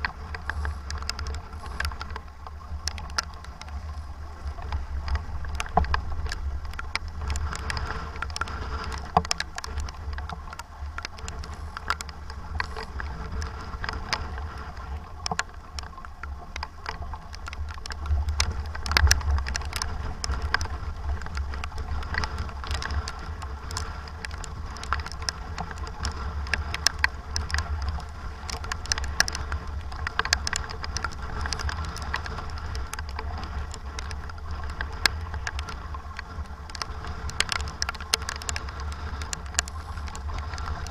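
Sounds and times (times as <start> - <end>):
wind rumble on microphone: 0.0 - 40.9
short sharp ticks and taps: 4.5 - 14.5, 15.1 - 40.9.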